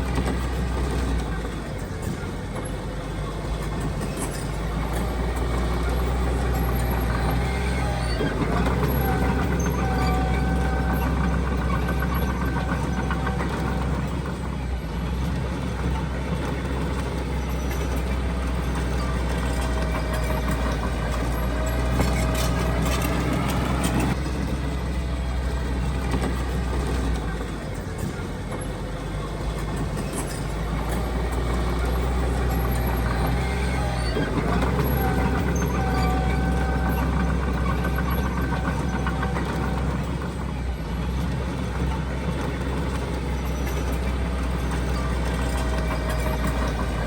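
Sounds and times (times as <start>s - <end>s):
diesel engine rumble: 0.0s - 47.0s.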